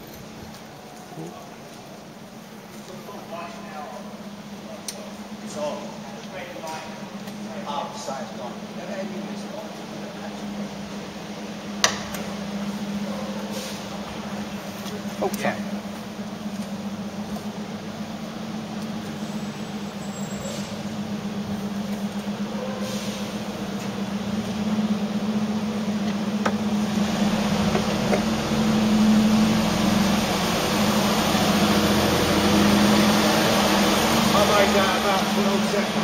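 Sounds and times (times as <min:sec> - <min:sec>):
car engine humming: 0:00.0 - 0:36.0.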